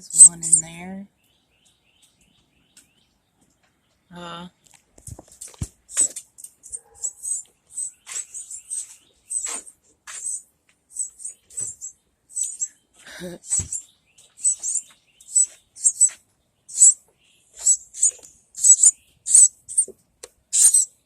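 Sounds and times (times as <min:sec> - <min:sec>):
nestlings calling: 0:00.0 - 0:03.2, 0:05.4 - 0:21.0.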